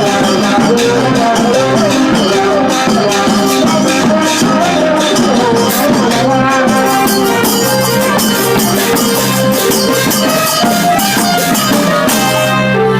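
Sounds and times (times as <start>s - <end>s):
drum and percussion beat: 0.0s - 12.9s
wind instruments playing: 0.8s - 12.9s.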